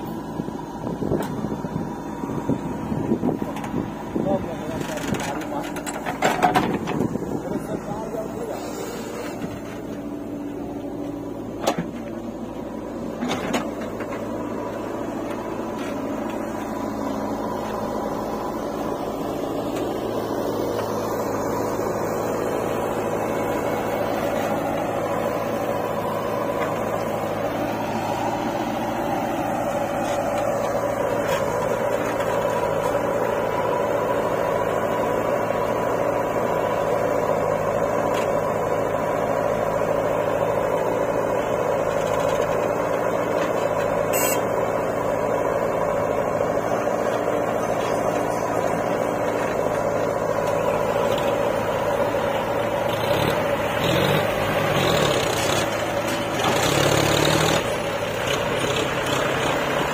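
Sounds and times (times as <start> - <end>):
backhoe loader running: 0.0 - 59.9
tractor diesel engine: 0.0 - 59.9.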